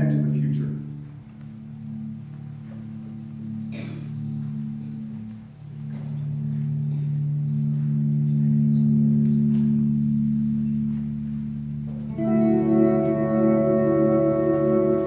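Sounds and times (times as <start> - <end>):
low drone of held tones: 0.0 - 15.0.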